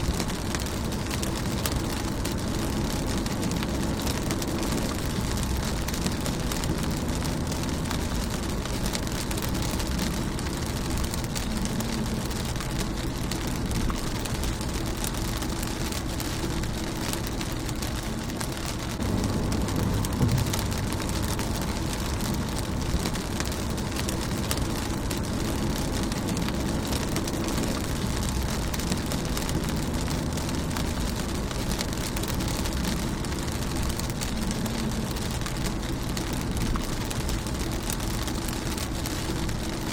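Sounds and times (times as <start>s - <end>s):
low rumble: 0.0s - 39.8s
rain on a car: 0.0s - 39.9s.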